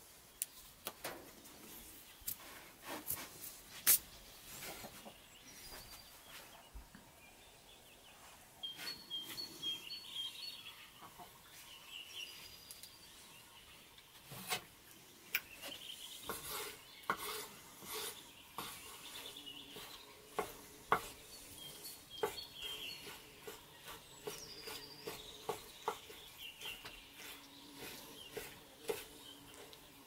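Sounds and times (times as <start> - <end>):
birds chirping faintly: 0.0 - 30.0.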